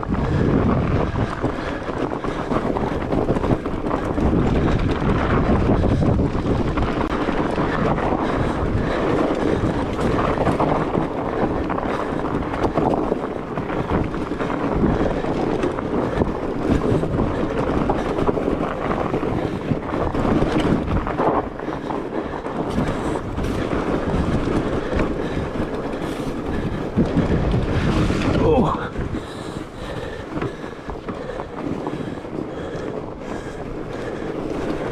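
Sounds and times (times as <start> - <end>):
tires rumbling on trail: 0.0 - 34.9
wind rushing on microphone: 0.0 - 34.9.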